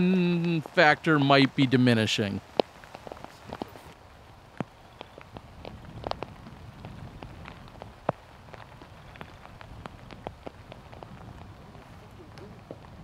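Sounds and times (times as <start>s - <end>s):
raindrops ticking: 0.0s - 13.0s.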